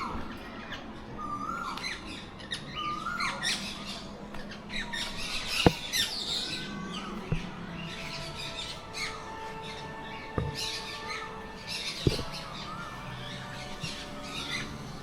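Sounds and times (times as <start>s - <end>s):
birds chirping and squawking: 0.0s - 15.0s.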